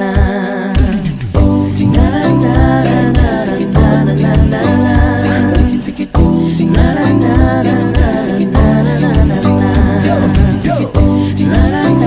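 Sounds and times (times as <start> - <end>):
song with wavering sung voice: 0.0 - 12.0
bass beat: 0.8 - 12.0.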